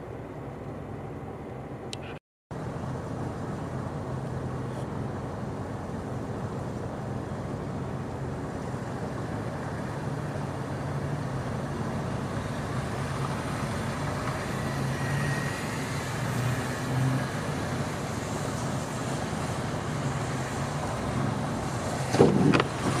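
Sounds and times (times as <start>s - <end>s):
traffic road noise: 0.0s - 23.0s.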